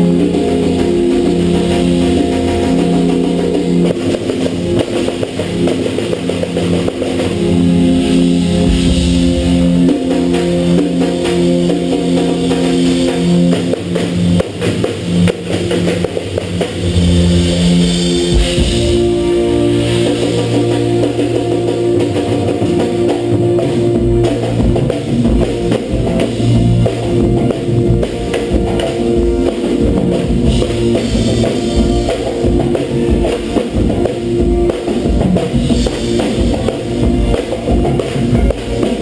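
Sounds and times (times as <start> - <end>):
drum kit: 0.0 - 39.0
guitar sustained chords: 0.0 - 39.0.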